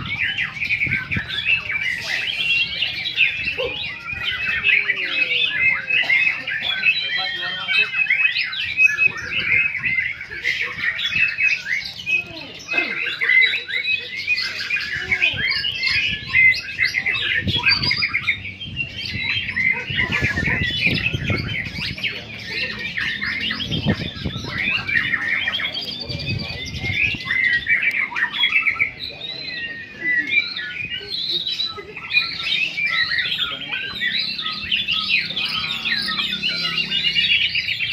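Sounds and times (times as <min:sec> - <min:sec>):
songbirds singing: 0:00.0 - 0:37.9.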